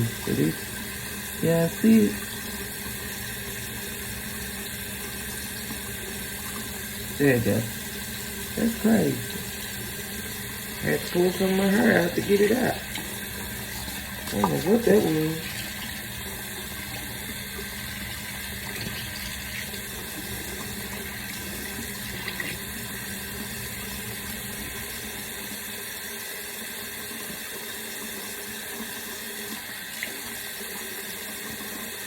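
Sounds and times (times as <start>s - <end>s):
tap water running into sink: 0.0s - 32.0s.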